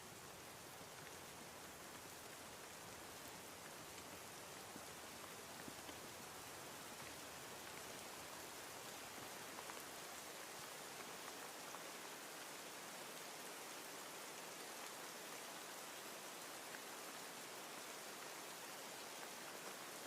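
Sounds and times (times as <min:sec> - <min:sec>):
faint rain: 0:00.0 - 0:20.0.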